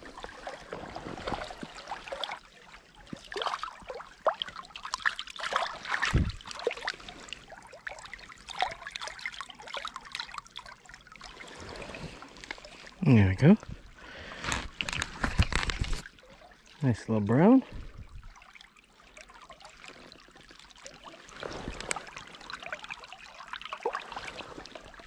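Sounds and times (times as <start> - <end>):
creek water splashing and trickling: 0.0 - 25.0.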